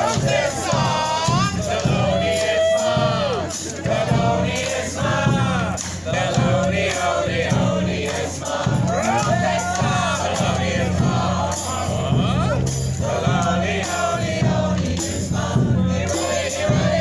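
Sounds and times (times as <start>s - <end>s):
brass band playing: 0.0s - 17.0s
many voices singing along: 0.0s - 17.0s.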